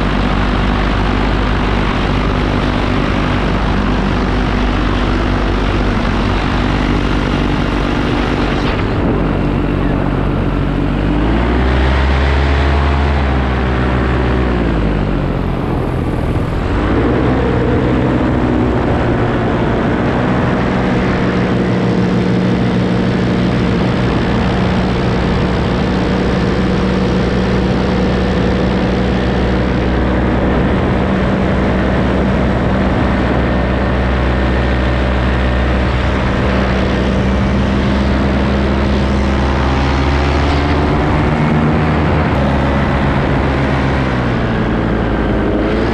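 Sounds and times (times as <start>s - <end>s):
paramotor engine droning: 0.0s - 45.9s
wind rushing past microphone: 0.0s - 45.9s.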